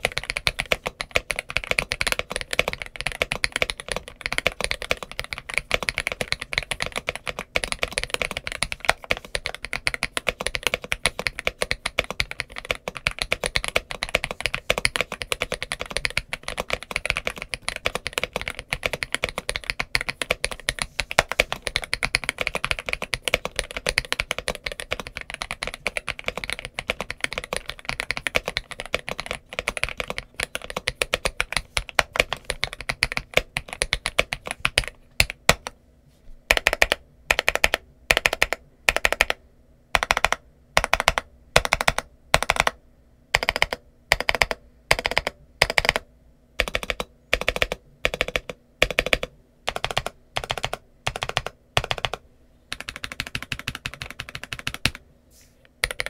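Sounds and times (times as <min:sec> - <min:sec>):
mechanical keyboard typing: 0:00.0 - 0:35.8, 0:36.5 - 0:39.4, 0:40.0 - 0:55.0, 0:55.7 - 0:56.0.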